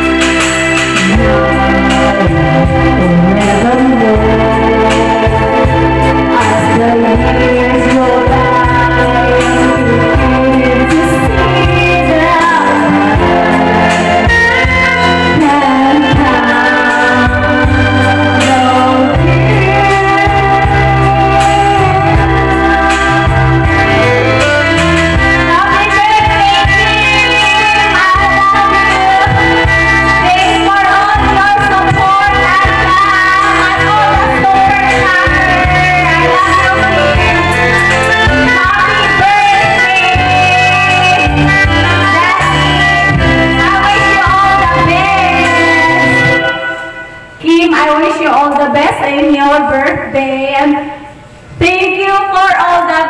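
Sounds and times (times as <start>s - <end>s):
backing music: 0.0s - 53.0s
woman singing slow song: 0.0s - 53.0s.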